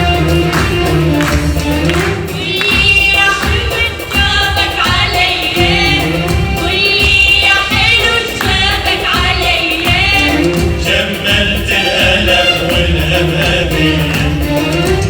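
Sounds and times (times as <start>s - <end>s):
percussion and accompaniment: 0.0s - 15.0s
person singing with vibrato: 2.1s - 15.0s.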